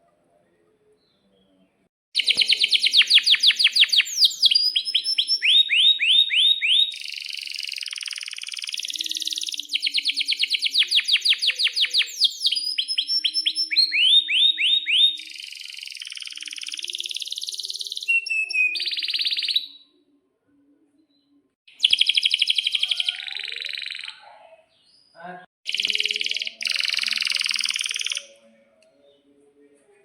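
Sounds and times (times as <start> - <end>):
canary singing trills: 2.2 - 20.0, 21.7 - 29.3.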